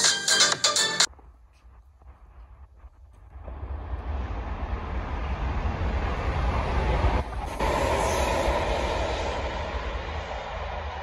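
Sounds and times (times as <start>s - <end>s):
train rumble: 1.1s - 11.0s.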